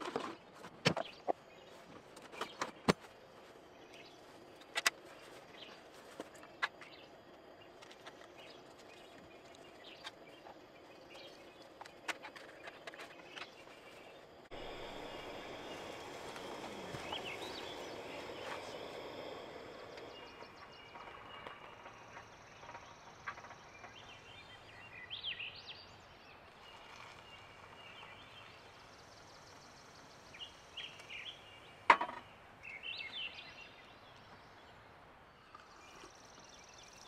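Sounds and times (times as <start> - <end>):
faint outdoor ambience: 0.0 - 37.0
small birds chirping: 0.0 - 37.0.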